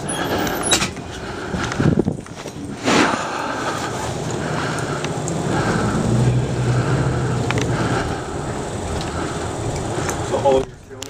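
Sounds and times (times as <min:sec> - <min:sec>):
low engine hum: 0:00.0 - 0:11.0
road noise inside vehicle: 0:00.0 - 0:11.0.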